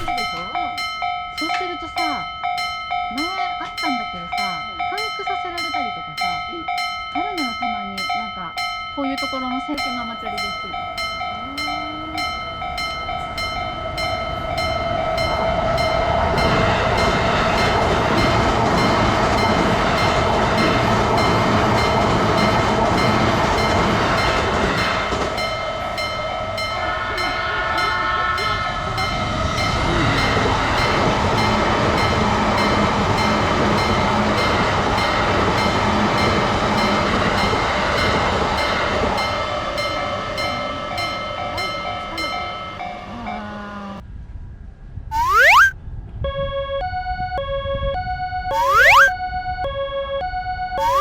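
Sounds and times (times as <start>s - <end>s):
train rushing past: 0.0s - 8.2s, 9.2s - 44.0s
level-crossing bell clanging: 0.0s - 44.0s, 50.8s - 51.0s.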